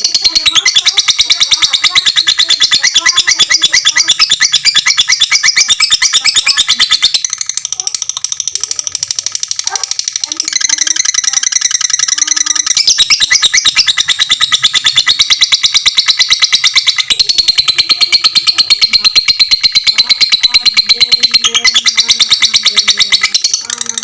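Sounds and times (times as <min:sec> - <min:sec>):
lovebird chattering shrill chirps: 0:00.0 - 0:24.0.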